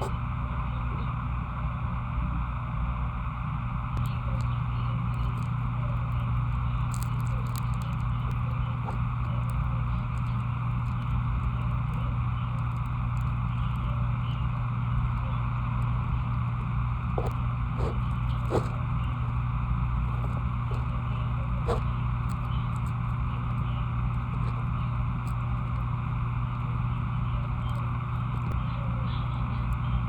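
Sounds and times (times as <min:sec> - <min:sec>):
mechanical hum with hiss: 0:00.0 - 0:30.0.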